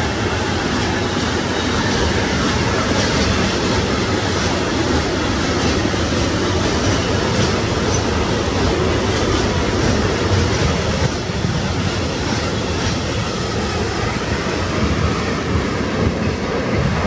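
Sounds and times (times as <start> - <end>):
freight train rolling rumble: 0.0 - 17.0.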